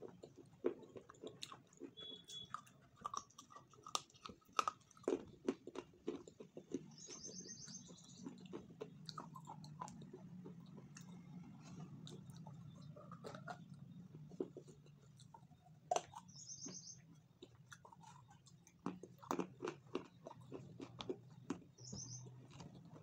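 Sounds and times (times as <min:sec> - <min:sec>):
person chewing and biting: 0:00.0 - 0:23.0.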